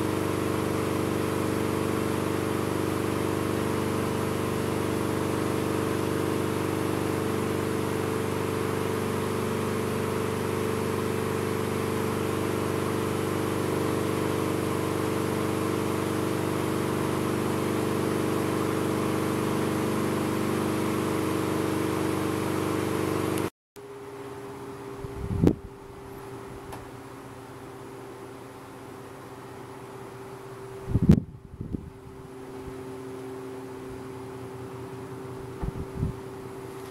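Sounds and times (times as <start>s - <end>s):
table fan running: 0.0s - 36.9s.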